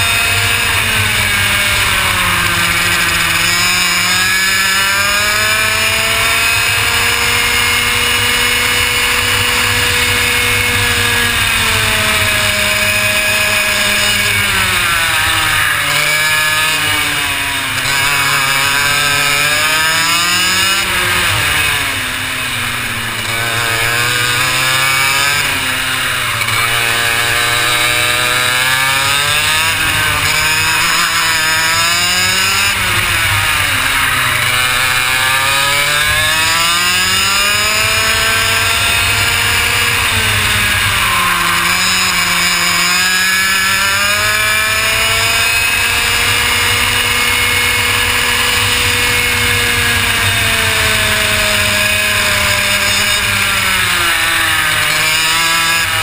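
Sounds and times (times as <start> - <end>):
racing kart engine revving: 0.0 - 56.0.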